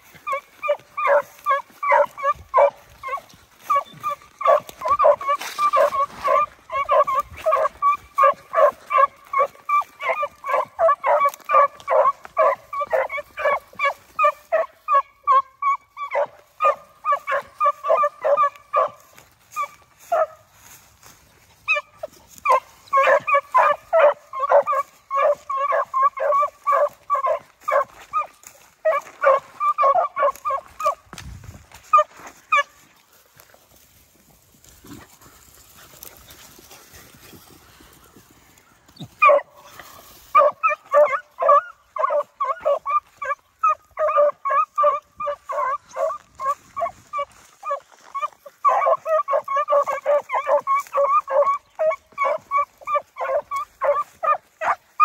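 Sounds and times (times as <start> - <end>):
dogs yelping: 0.0 - 33.0, 34.7 - 55.0.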